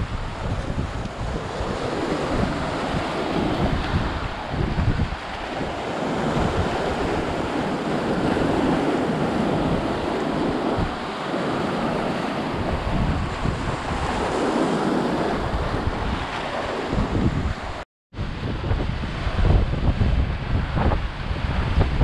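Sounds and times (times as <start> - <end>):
wind buffeting microphone: 0.0 - 22.0
waves breaking over rocks: 0.2 - 17.8.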